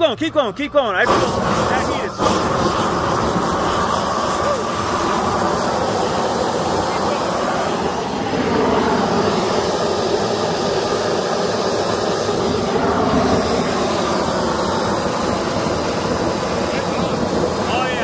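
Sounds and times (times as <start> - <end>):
propane torch burning: 0.0 - 18.0.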